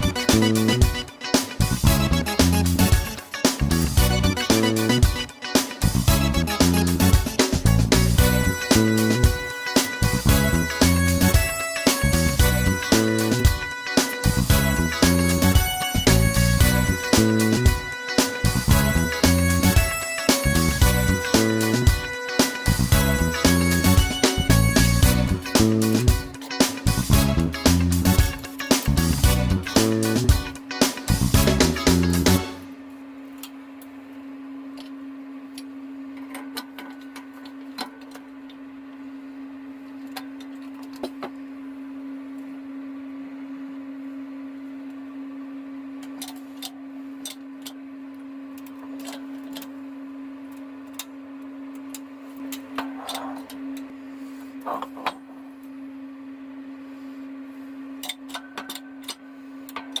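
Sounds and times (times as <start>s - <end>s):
steady machine hum: 0.0s - 60.0s.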